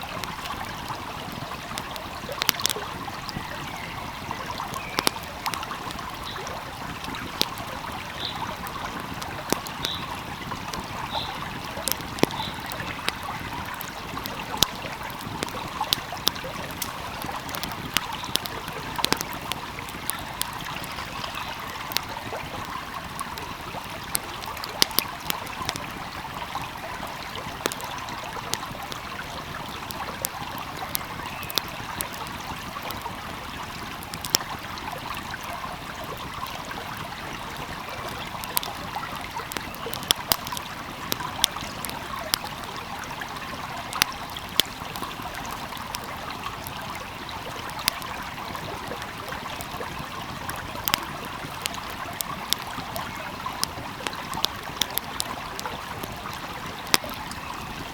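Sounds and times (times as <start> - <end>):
stream flowing: 0.0 - 57.9
wood fire crackling and popping: 0.0 - 57.9.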